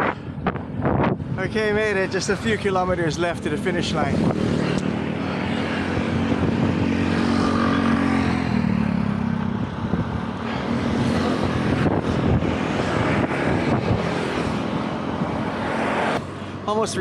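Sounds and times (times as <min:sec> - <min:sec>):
road and wind noise: 0:00.0 - 0:17.0
vehicle engine humming: 0:00.0 - 0:17.0.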